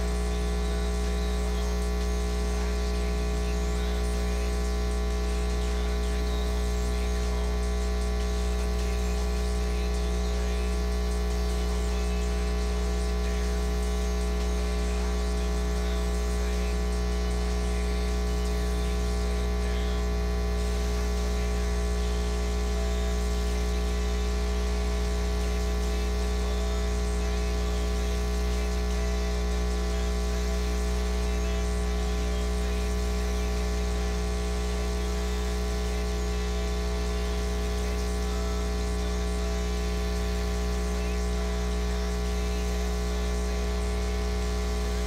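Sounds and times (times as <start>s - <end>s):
low electrical hum: 0.0s - 45.0s.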